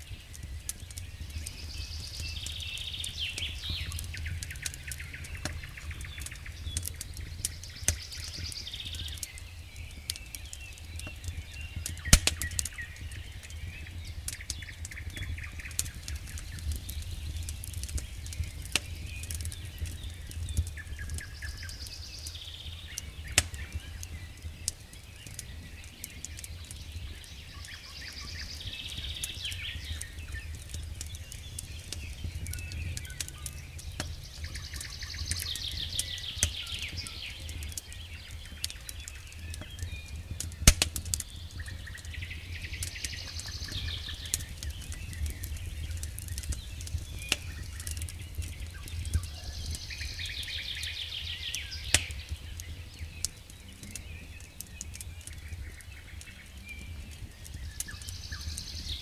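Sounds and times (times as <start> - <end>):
birds chirping: 0.0 - 59.0
campfire crackling and popping: 0.0 - 59.0.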